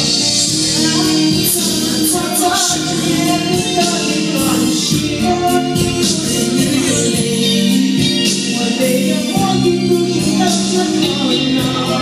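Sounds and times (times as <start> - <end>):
amplified backing music: 0.0 - 12.0
person singing into a microphone: 0.0 - 12.0.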